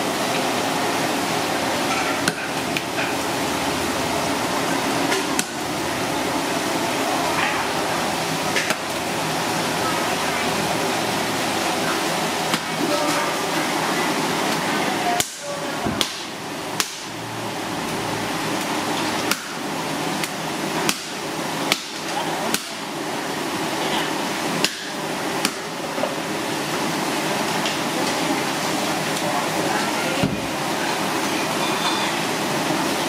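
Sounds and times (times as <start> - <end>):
steady noisy background: 0.0 - 33.0.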